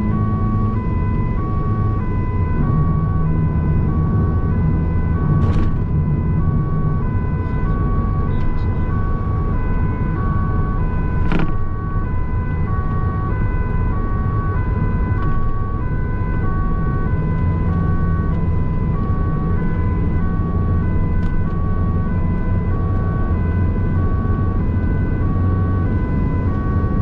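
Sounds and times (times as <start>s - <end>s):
engine and tyre noise: 0.0s - 27.0s
two-tone emergency siren: 0.0s - 27.0s.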